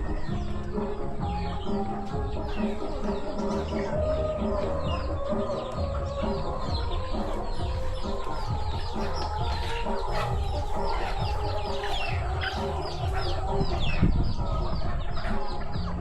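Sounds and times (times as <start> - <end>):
high falling chirps: 0.0 - 15.7
chickens clucking: 0.0 - 16.0.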